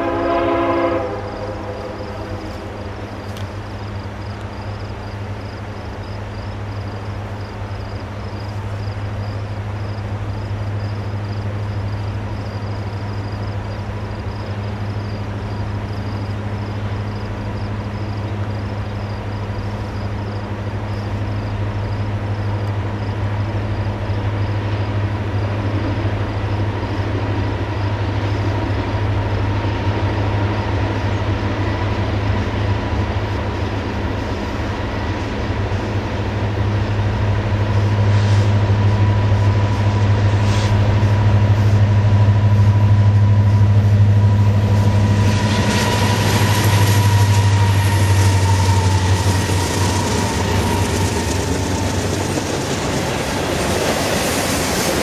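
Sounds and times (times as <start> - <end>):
distant locomotive engine drone: 0.0 - 55.0.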